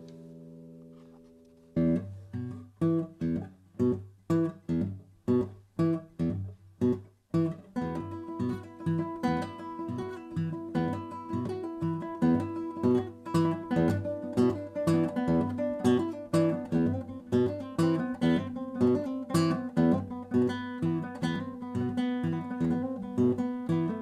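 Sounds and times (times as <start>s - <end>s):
guitar duet: 0.0s - 24.0s.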